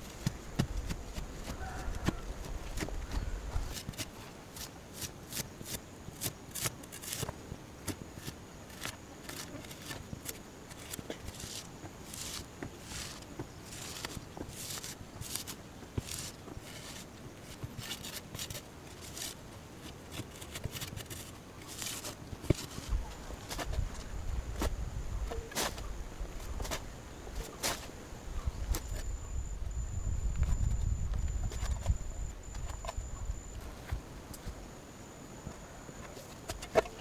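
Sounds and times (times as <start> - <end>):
rustles and scrapes of hand work: 0.0 - 37.0.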